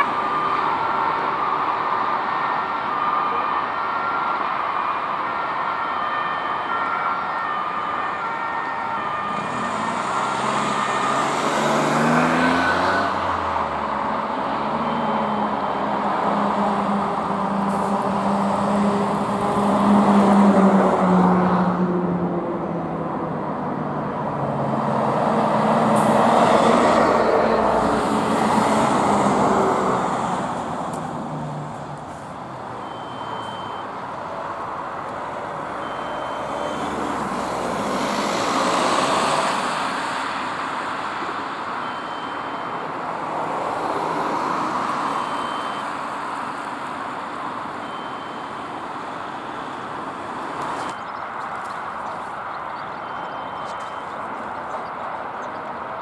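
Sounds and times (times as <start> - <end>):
trucks driving past: 0.0 - 56.0.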